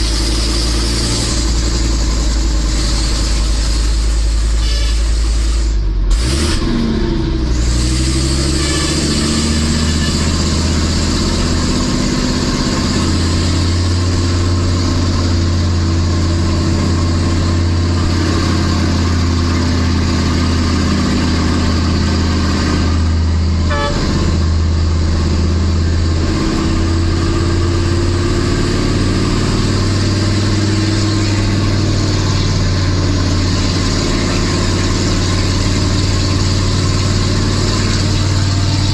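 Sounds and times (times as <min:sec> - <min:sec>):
diesel truck engine pulling uphill: 0:00.0 - 0:38.9.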